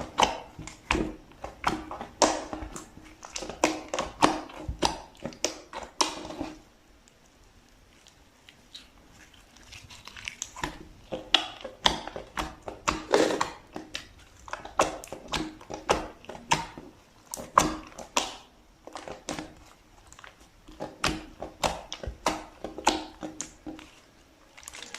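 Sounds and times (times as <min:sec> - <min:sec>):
slime squishing and popping: 0:00.0 - 0:06.6, 0:08.5 - 0:24.9.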